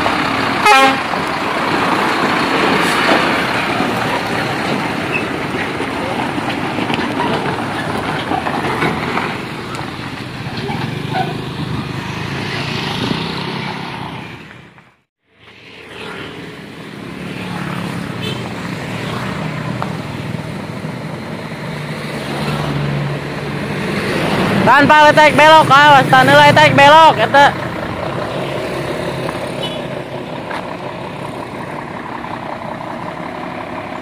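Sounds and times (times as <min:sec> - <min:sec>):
truck driving past: 0:00.0 - 0:24.7, 0:25.3 - 0:34.0
diesel engine running close by: 0:00.0 - 0:34.0.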